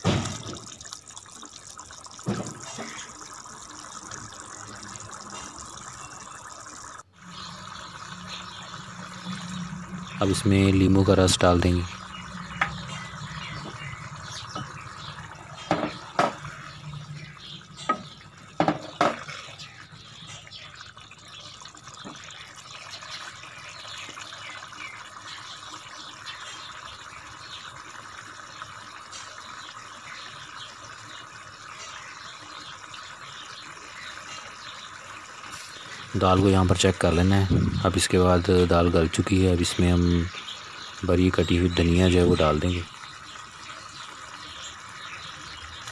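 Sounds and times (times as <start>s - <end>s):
pot bubbling on stove: 0.0s - 45.9s.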